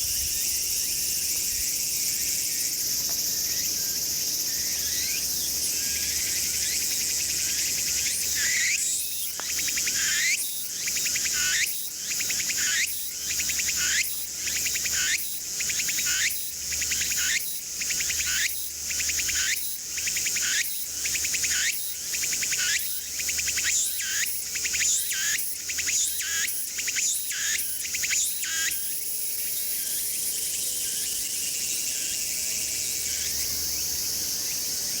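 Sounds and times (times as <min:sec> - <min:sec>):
cicada singing rising phrases: 0:00.0 - 0:35.0.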